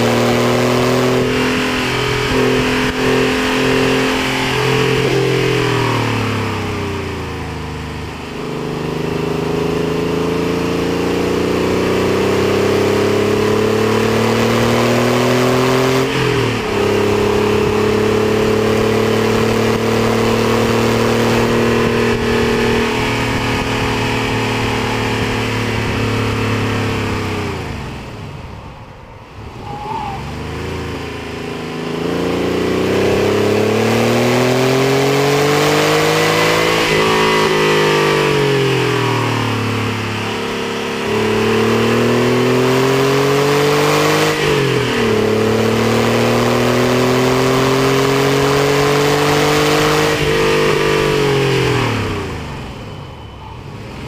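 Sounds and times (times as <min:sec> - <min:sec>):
car engine revving hard: 0:00.0 - 0:28.3, 0:29.3 - 0:52.9.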